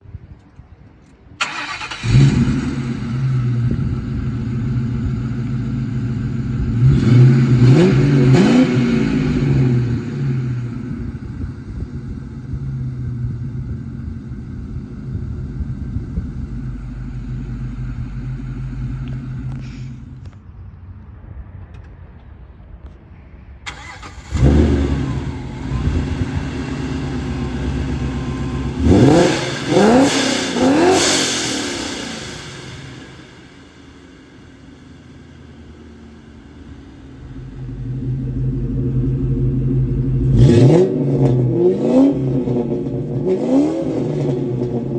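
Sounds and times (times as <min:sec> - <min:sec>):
second car engine revving: 0:01.4 - 0:20.3, 0:23.7 - 0:44.9
car engine idling and revving: 0:01.4 - 0:20.4, 0:23.7 - 0:44.9.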